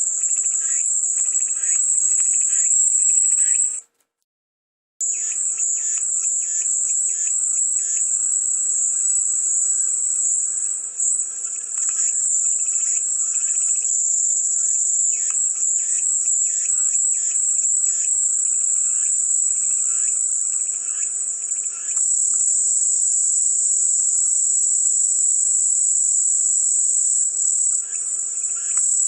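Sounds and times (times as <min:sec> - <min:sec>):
cicadas buzzing: 0:00.0 - 0:03.8, 0:05.0 - 0:29.0
pulsing cicada calls: 0:00.0 - 0:03.8, 0:05.0 - 0:29.0.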